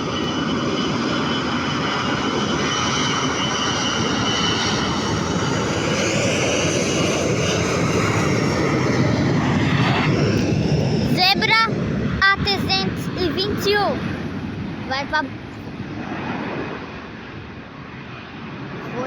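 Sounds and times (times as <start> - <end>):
jet engines at takeoff power: 0.0 - 19.0.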